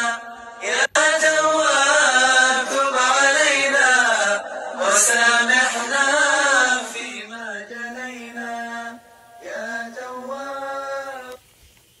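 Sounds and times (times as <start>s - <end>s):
solo voice chanting: 0.0s - 11.4s.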